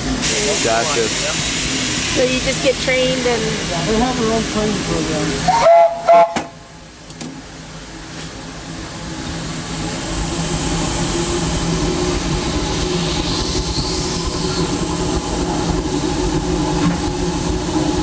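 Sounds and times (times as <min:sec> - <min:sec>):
rail and wheel clatter: 0:00.0 - 0:18.0
steam locomotive engine hum: 0:00.0 - 0:18.0.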